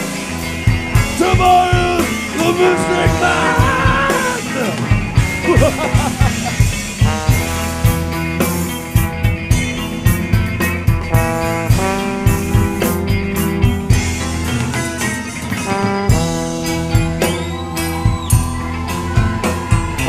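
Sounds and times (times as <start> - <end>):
band music with guitar and drums: 0.0 - 20.0.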